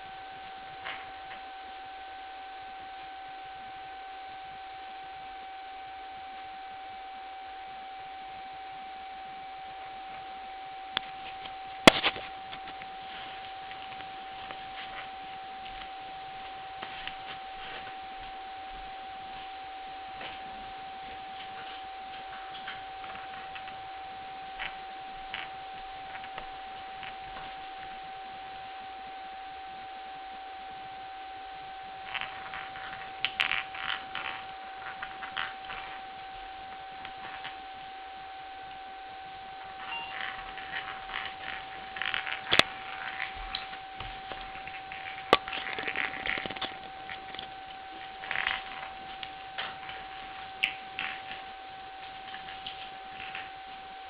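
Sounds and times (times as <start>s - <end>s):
high-pitched whine: 0.0s - 54.0s.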